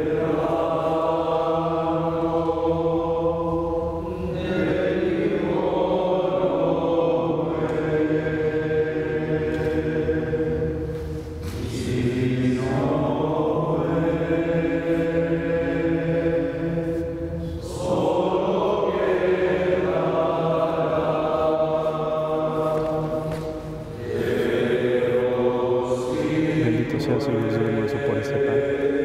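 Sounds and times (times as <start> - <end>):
voices singing a slow hymn: 0.0 - 29.0.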